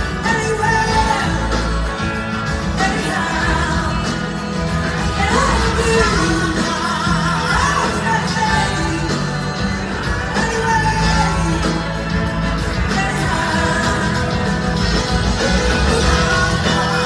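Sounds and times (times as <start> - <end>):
live blues-rock band: 0.0 - 17.0
woman singing lead vocal: 0.2 - 1.8, 2.7 - 11.9, 12.8 - 14.6, 15.4 - 17.0.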